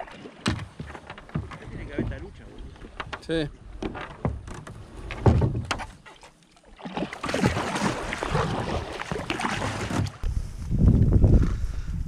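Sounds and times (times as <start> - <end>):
reeds scraping along a kayak hull: 0.0 - 10.6.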